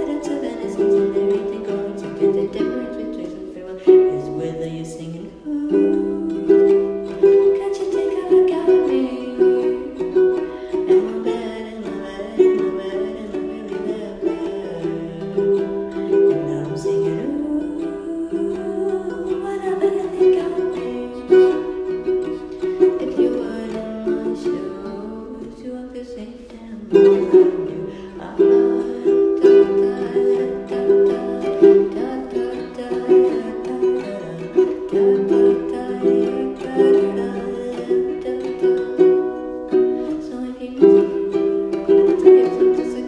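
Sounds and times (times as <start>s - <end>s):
ukulele playing chords: 0.0s - 43.0s.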